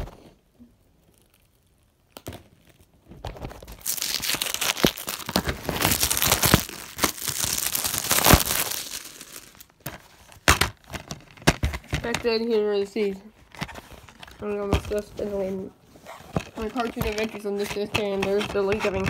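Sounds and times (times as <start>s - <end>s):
packaging crinkling and tearing: 1.0s - 12.0s, 13.4s - 19.0s.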